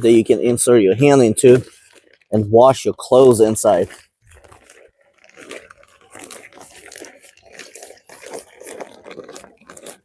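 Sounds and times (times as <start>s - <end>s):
plastic bag crinkling and rustling: 1.1s - 10.0s.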